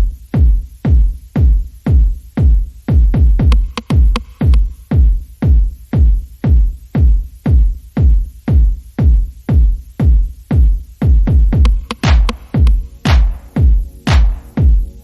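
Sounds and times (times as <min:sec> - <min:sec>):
electronic music with heavy kick drum: 0:00.0 - 0:15.0.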